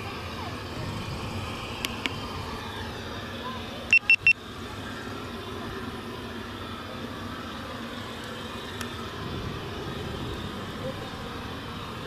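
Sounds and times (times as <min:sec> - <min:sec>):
airliner jet noise: 0:00.0 - 0:12.0.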